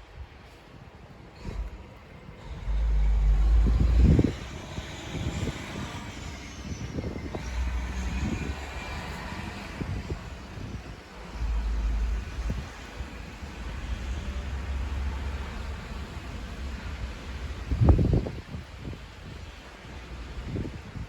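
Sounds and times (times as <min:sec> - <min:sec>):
snowstorm wind hissing: 0:00.0 - 0:21.0
wind gusts rumbling on microphone: 0:00.0 - 0:21.0.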